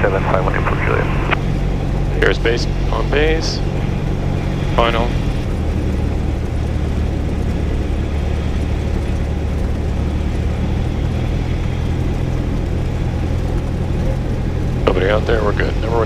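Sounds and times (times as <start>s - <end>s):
airplane engine droning: 0.0s - 16.0s.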